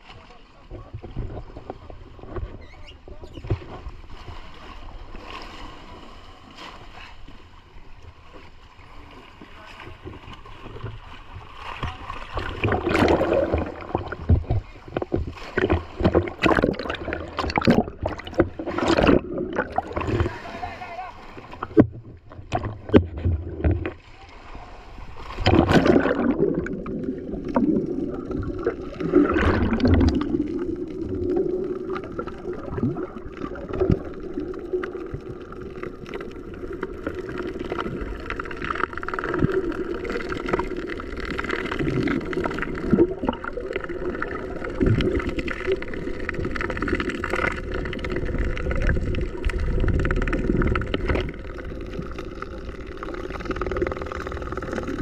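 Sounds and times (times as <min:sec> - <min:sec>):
water splashing: 0:00.0 - 0:55.0.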